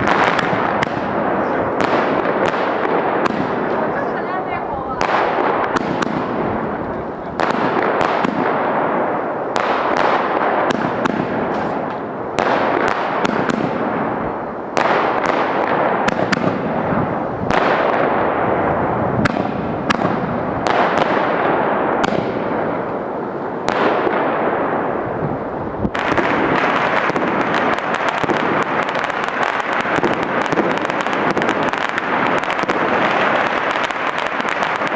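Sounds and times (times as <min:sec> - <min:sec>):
firecrackers crackling and banging: 0:00.0 - 0:34.9.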